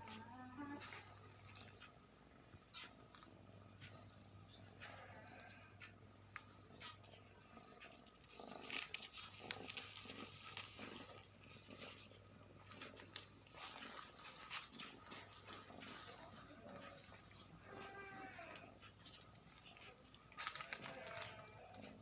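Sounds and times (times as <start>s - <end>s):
cat rustling and scratching: 0.0s - 22.0s.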